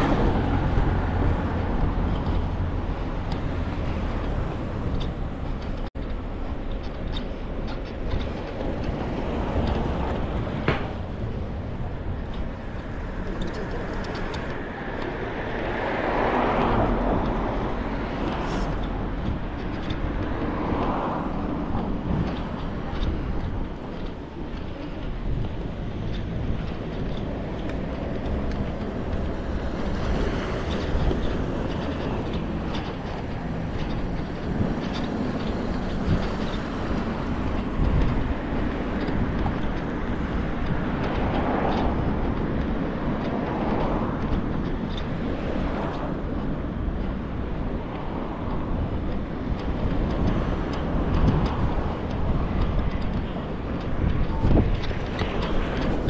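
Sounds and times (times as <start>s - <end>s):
cars driving past: 0.0s - 5.7s, 8.3s - 56.0s.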